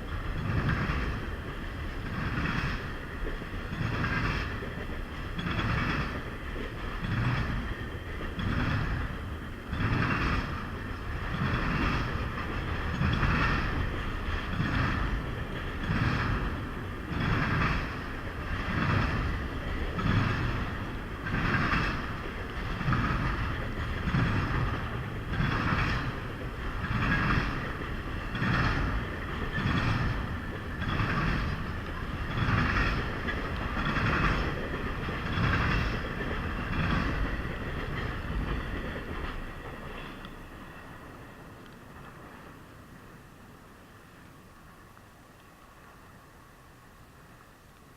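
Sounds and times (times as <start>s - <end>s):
train wheels clacking over rail joints: 0.0s - 42.6s.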